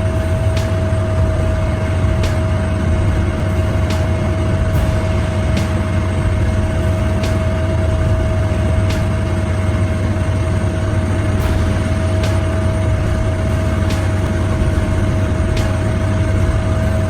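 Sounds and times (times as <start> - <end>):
heavy machine engine rumble: 0.0 - 17.0
machine whine: 0.0 - 17.0.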